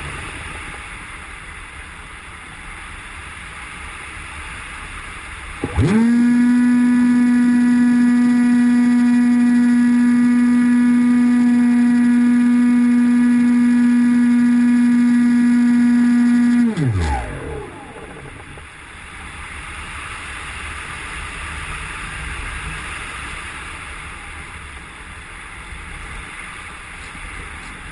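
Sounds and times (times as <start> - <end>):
model plane motor and propeller: 3.4 - 27.9.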